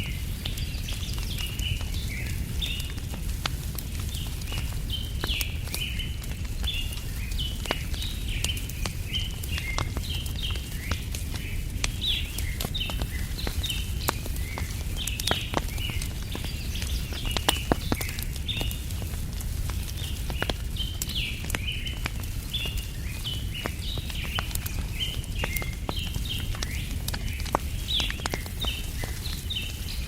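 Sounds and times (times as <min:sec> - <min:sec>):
small birds chirping: 0:00.0 - 0:30.0
wood fire crackling and popping: 0:00.0 - 0:30.0.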